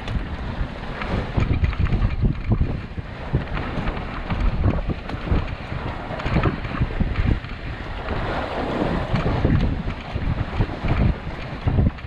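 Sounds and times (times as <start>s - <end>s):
rush of wind and water: 0.0s - 12.0s
wind buffeting microphone: 0.0s - 12.0s.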